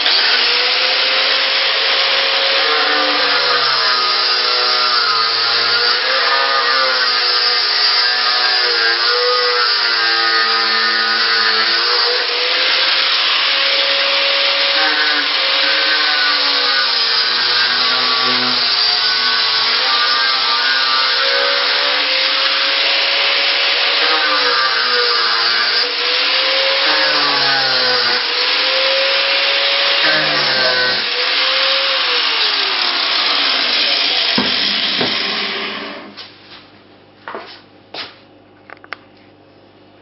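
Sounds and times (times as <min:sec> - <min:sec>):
angle grinder grinding concrete: 0:00.0 - 0:36.2.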